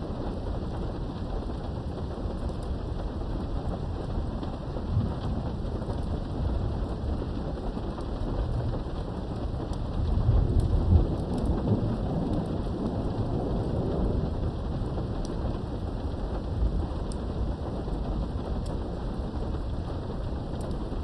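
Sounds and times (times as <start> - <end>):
heavy rain falling: 0.0 - 21.0
distant thunder rumbling: 3.2 - 21.0.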